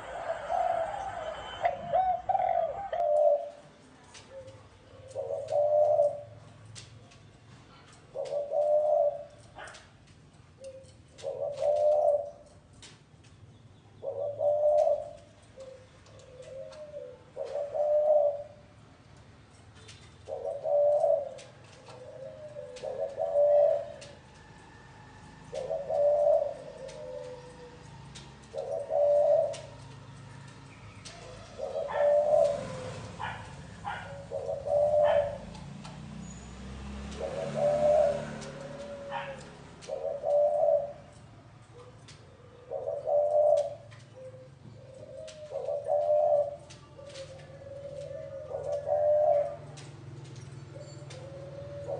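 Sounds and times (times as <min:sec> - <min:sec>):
dove cooing: 0:00.0 - 0:06.5, 0:07.9 - 0:13.0, 0:14.0 - 0:18.9, 0:19.5 - 0:51.9.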